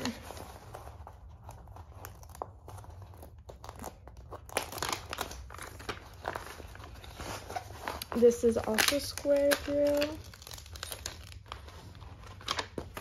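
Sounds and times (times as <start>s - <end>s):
plastic sheet crinkling: 0.0s - 13.0s.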